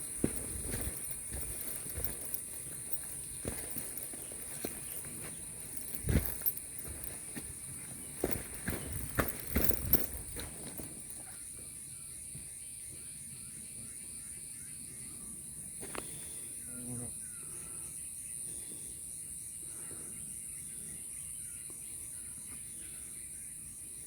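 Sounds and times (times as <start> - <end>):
high-pitched insect chorus: 0.0 - 24.0
pulsing insect trill: 0.0 - 24.0.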